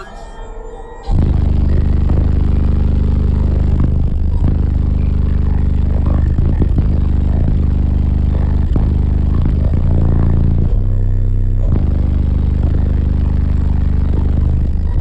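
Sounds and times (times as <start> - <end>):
deep bass note from subwoofers: 1.1 - 15.0.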